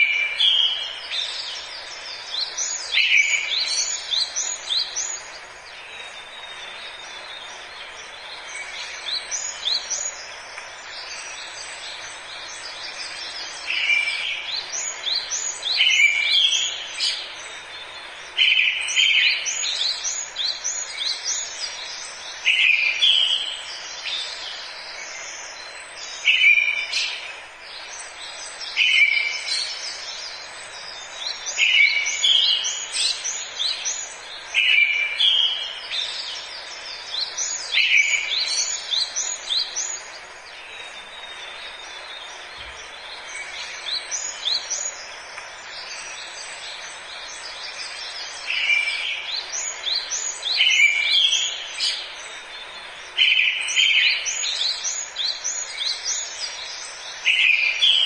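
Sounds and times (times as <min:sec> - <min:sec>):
steady background hiss: 0:00.0 - 0:58.0.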